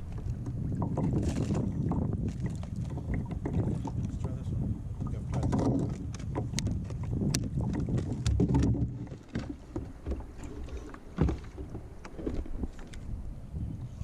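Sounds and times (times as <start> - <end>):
water sloshing against hull: 0.0 - 14.0
wind buffeting microphone: 0.0 - 14.0.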